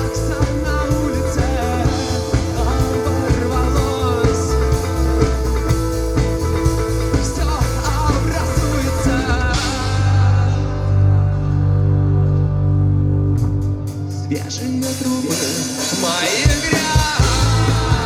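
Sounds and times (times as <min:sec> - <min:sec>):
held low bass note: 0:00.0 - 0:14.6
drums: 0:00.0 - 0:18.0
rock band playing live: 0:00.0 - 0:18.0.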